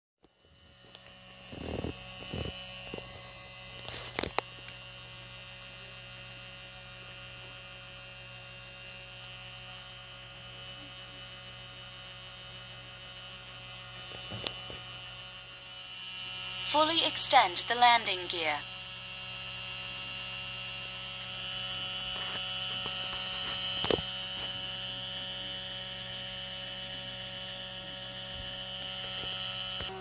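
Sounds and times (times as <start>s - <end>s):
electrical hum: 0.2s - 30.0s.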